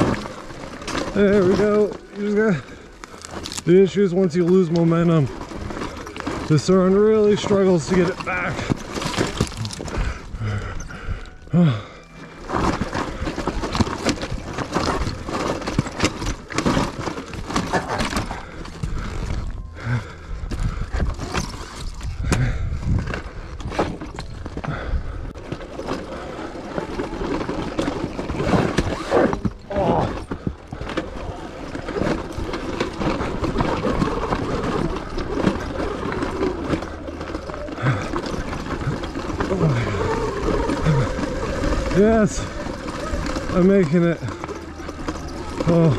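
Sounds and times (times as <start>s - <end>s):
bike knocking and rattling: 0.0s - 45.9s
tyres crunching on loose stone: 0.0s - 45.9s.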